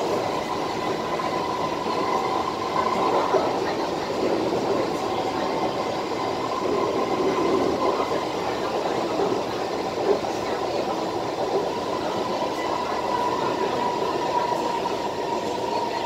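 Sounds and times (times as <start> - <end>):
train interior rumble and whine: 0.0 - 16.0.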